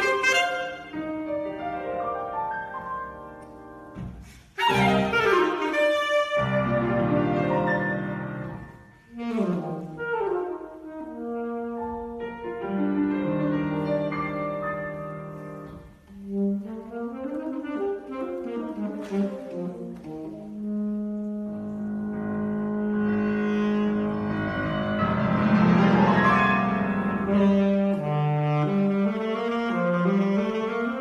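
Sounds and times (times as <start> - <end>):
alto saxophone playing: 0.0 - 2.0, 4.4 - 31.0
piano: 0.0 - 31.0.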